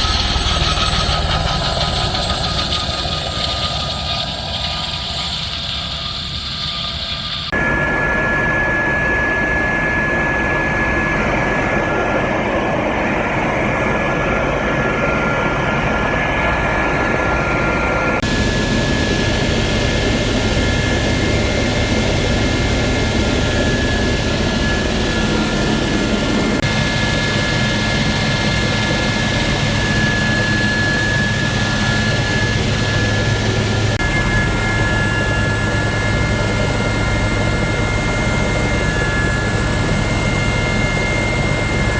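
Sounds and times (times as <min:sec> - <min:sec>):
helicopter engine and rotors: 0:00.0 - 0:41.9.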